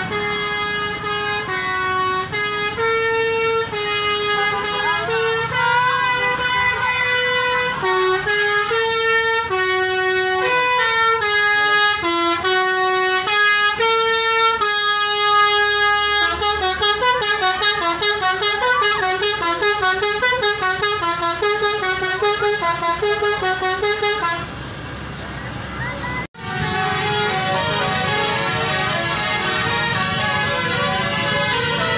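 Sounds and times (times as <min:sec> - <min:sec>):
multi-tone bus horn melody: 0:00.0 - 0:24.7, 0:26.2 - 0:31.9.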